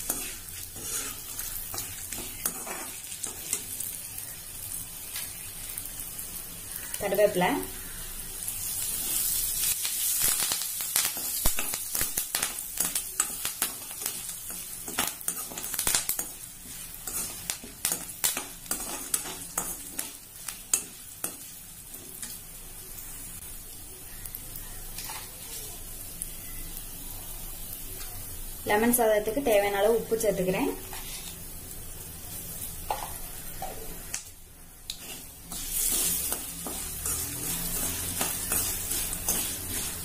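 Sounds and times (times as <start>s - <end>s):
leaves sizzling and crackling in oil: 0.0s - 40.0s.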